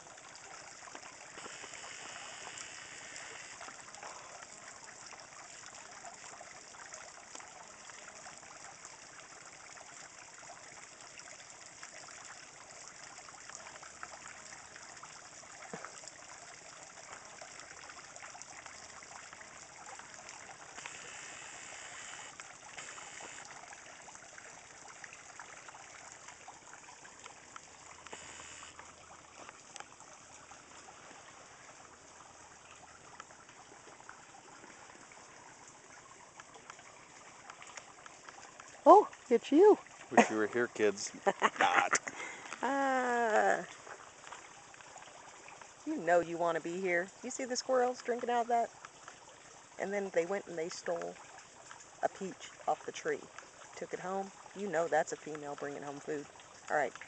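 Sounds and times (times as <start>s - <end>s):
water trickling into pond: 0.0s - 57.0s.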